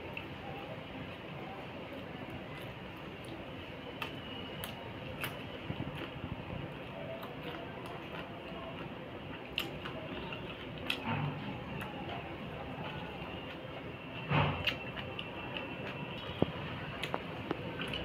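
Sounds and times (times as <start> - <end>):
person chewing food: 1.9 - 18.0.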